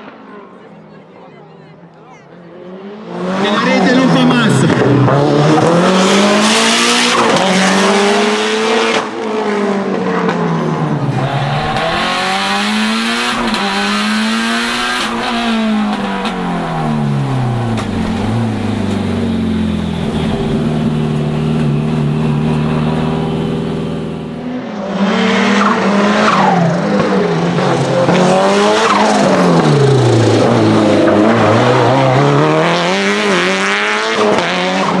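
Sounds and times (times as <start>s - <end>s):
car engine revving: 4.7s - 9.0s, 10.8s - 35.0s.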